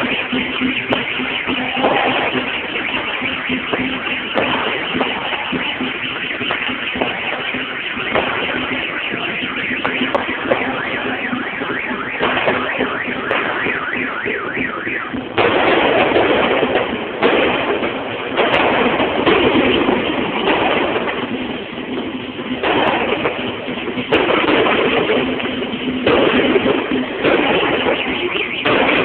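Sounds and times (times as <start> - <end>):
firecrackers crackling and banging: 0.0 - 29.0
wailing siren tone: 0.0 - 29.0.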